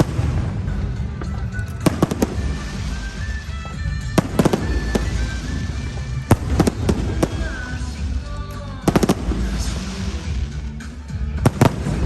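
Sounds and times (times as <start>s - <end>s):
fireworks shells bursting: 0.0s - 12.0s.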